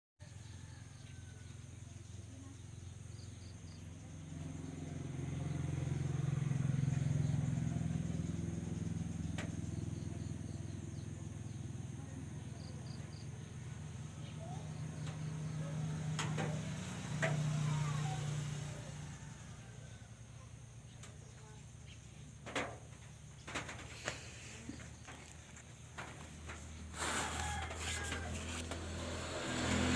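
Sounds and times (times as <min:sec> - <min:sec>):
vehicle engine humming: 0:01.6 - 0:29.9.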